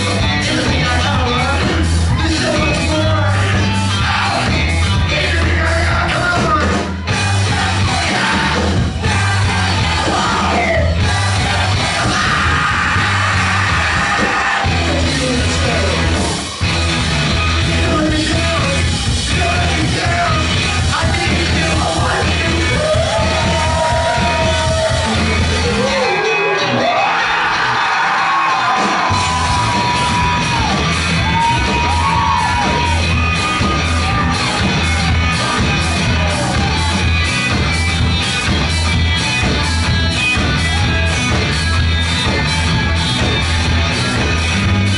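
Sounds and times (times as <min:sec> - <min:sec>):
bass line: 0:00.0 - 0:44.9
drums: 0:00.0 - 0:44.9
guitar: 0:00.0 - 0:44.9.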